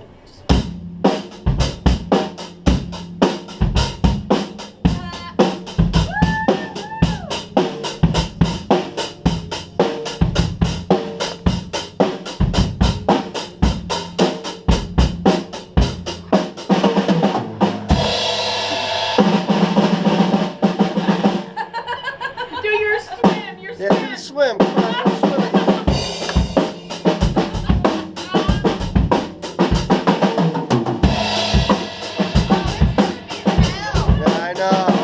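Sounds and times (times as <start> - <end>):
drum kit fast groove: 0.5 - 35.0.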